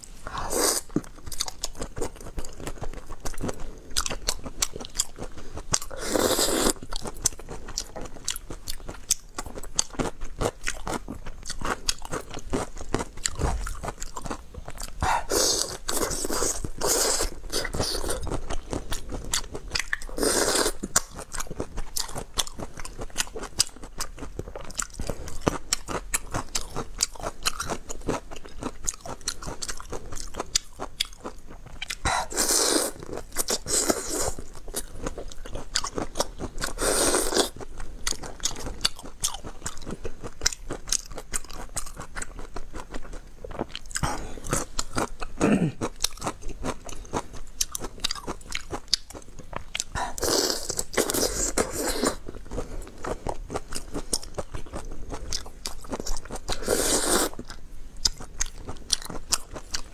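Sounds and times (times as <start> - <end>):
crunching and chewing prawn shells: 0.2 - 59.9.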